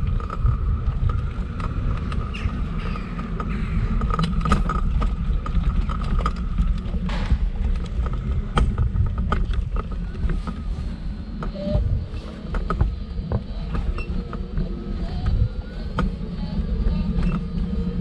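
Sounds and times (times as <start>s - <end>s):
wheelchair wheels rolling on stone: 0.0s - 18.0s
wheels clicking over joints: 0.0s - 18.0s.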